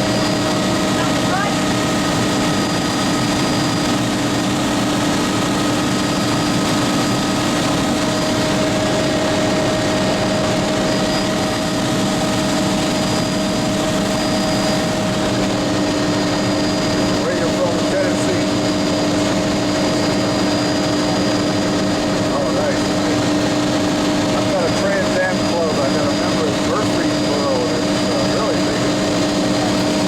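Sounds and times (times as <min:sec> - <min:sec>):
helicopter engine and rotor running: 0:00.0 - 0:30.0.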